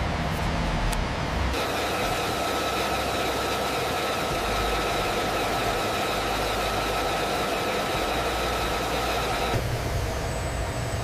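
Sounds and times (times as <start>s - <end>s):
deep engine rumble: 0.0s - 11.0s
jet engine turbine whine: 0.0s - 11.0s.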